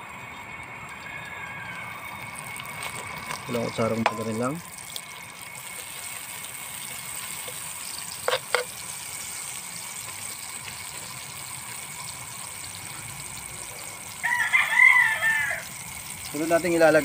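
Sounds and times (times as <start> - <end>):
margarine sizzling in a wok: 0.0 - 17.0.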